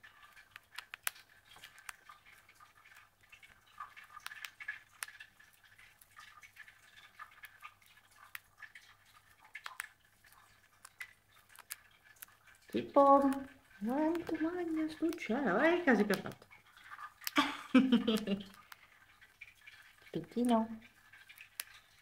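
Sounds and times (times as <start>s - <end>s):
bird pecking and cracking seeds: 0.0s - 22.0s.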